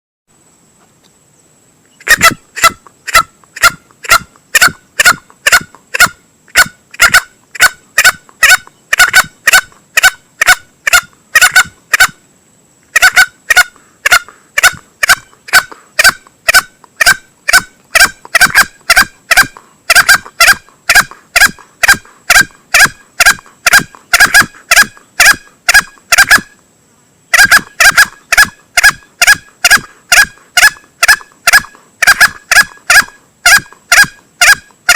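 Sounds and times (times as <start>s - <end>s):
junglefowl clucking calls: 2.0s - 12.2s, 12.9s - 26.6s, 27.3s - 34.9s.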